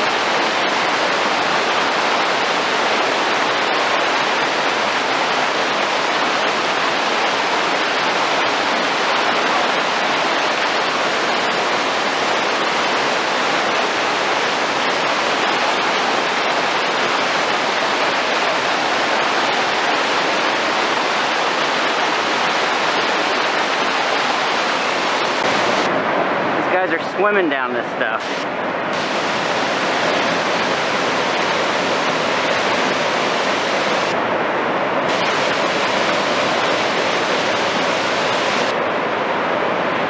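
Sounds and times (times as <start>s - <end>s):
river rapids rushing: 0.0s - 40.0s.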